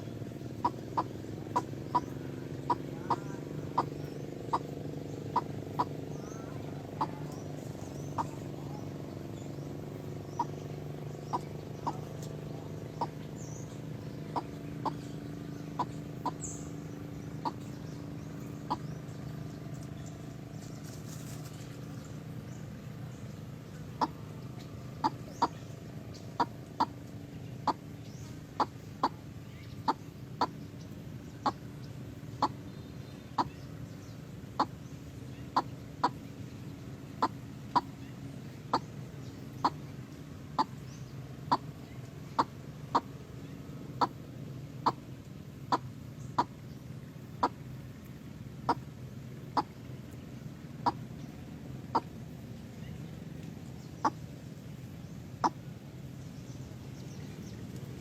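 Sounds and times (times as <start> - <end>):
bird giving sharp calls: 0.0 - 21.5, 23.6 - 58.0
steady low hum: 0.0 - 58.0.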